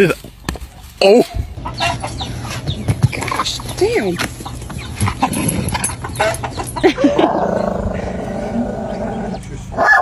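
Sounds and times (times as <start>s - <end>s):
chickens clucking and squawking: 0.3s - 10.0s.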